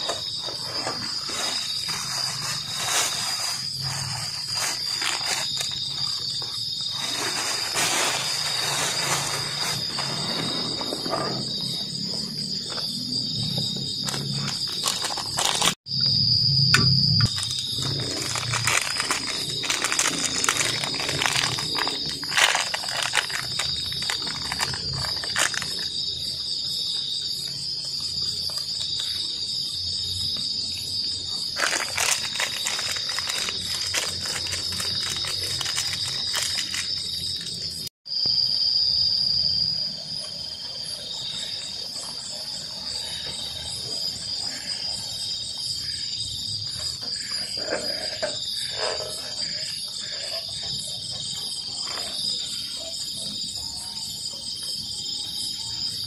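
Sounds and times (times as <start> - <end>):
night insects chorus: 0.0 - 56.0.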